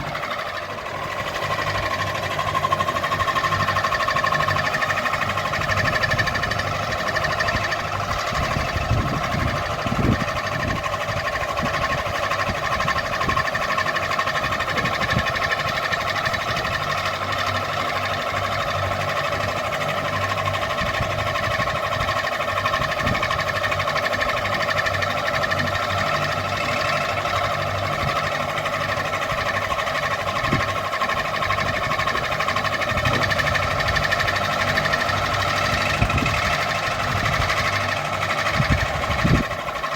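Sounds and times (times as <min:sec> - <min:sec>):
ceiling fan whining: 0:00.0 - 0:39.9.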